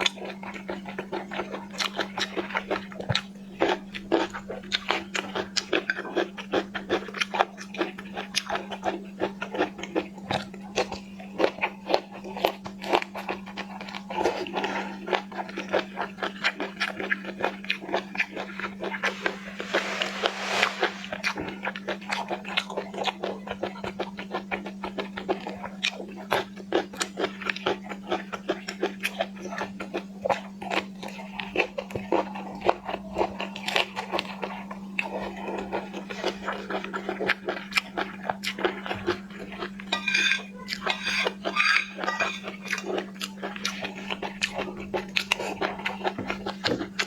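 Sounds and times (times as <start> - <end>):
crunching and chewing shellfish: 0.0 - 19.0, 22.8 - 47.0.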